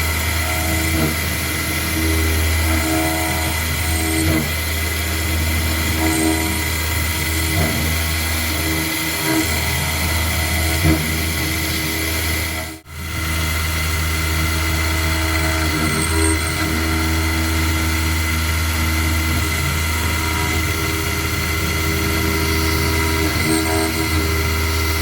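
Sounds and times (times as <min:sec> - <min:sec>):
milling machine humming and whirring: 0:00.0 - 0:25.0.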